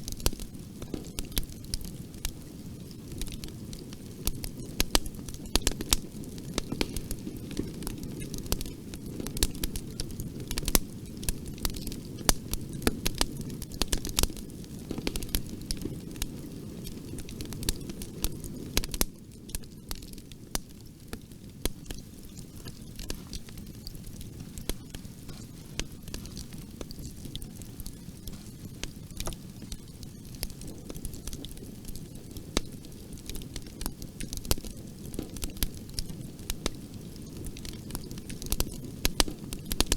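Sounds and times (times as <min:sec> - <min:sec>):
burning wood crackling: 0:00.0 - 0:39.9
rumble of flames: 0:00.0 - 0:39.9.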